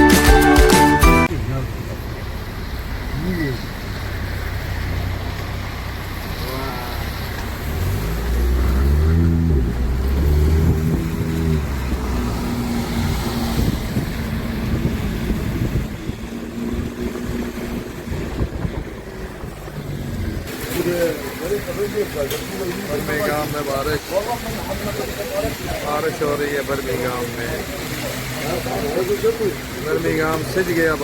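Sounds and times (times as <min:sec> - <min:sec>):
vehicle engine running: 0:01.3 - 0:31.0.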